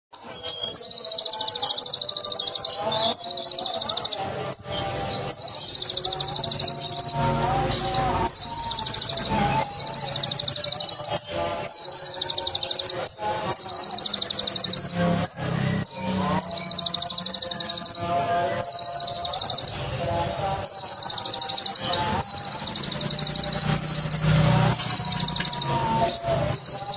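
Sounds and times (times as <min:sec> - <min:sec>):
bird sharp chips: 0:00.1 - 0:20.0, 0:20.6 - 0:26.9.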